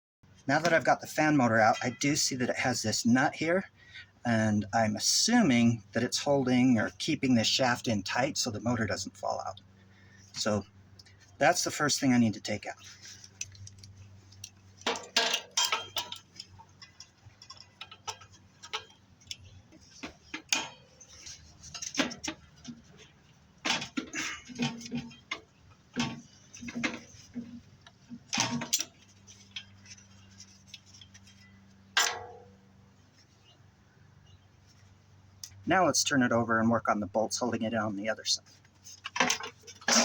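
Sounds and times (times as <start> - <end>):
faint steady hum: 0.3 - 40.0.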